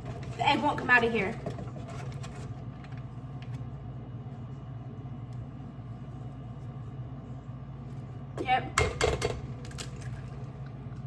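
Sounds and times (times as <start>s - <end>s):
steady low motor hum: 0.0s - 11.0s.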